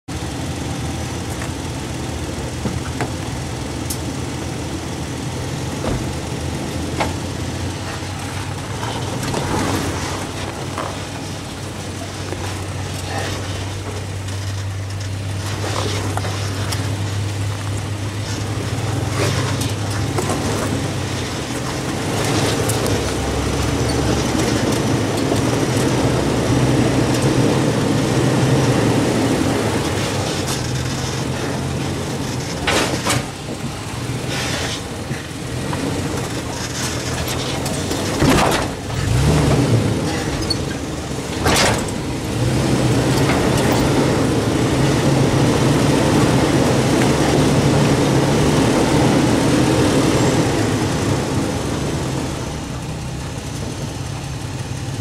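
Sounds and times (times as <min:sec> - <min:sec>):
car engine running: 0:00.1 - 0:55.0.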